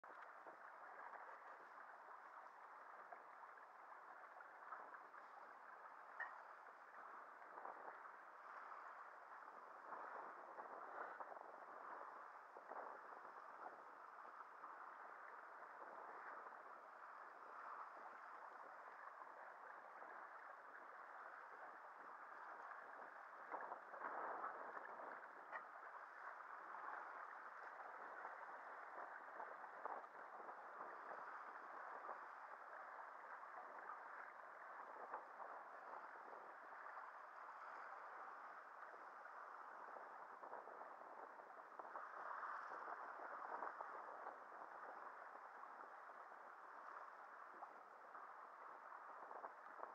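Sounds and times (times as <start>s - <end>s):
sea water rushing along hull: 0.1s - 49.9s.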